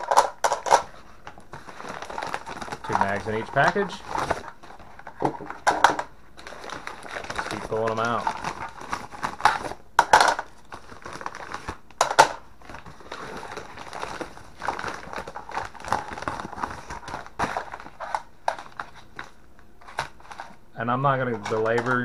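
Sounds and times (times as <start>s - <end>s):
paper envelopes crinkling: 0.0s - 22.0s.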